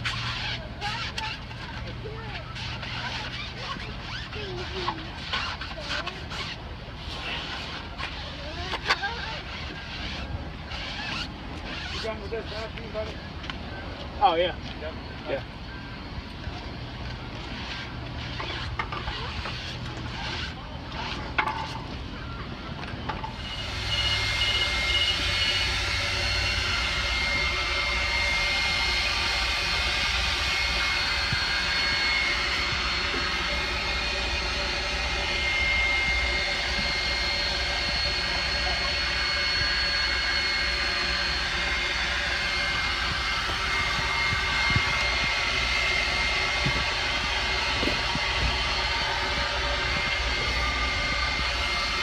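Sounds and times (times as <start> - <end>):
car wash machinery running: 0.0 - 52.0
vacuum air rush and motor whine: 0.0 - 52.0.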